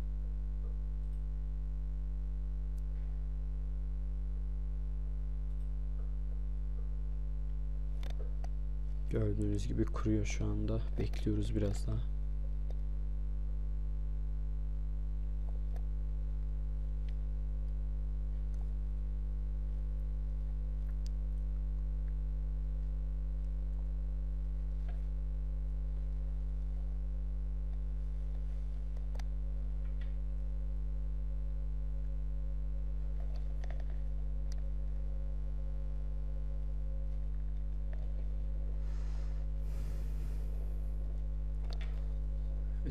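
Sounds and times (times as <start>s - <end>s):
buzzy electrical mains hum: 0.0s - 42.9s.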